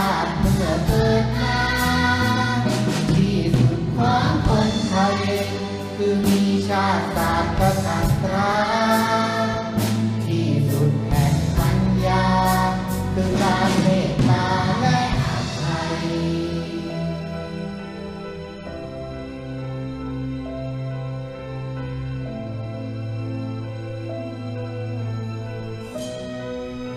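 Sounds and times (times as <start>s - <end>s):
orchestral accompaniment: 0.0s - 26.9s.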